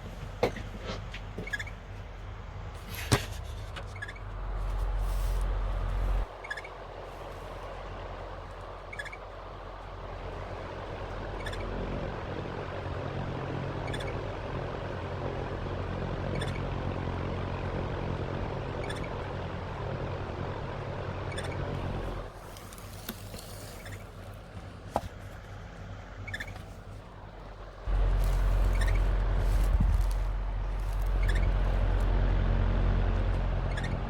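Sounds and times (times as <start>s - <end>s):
stand fan humming: 0.0s - 34.0s.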